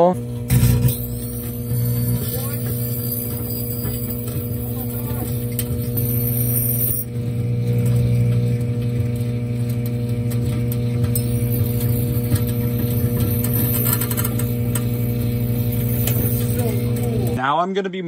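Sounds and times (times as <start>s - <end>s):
microwave oven humming: 0.0s - 17.5s.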